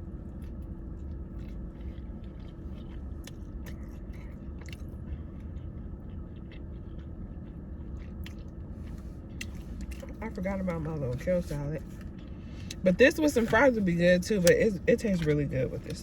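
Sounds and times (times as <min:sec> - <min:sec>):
person chewing food: 0:00.0 - 0:13.6
steady low hum: 0:00.0 - 0:16.0.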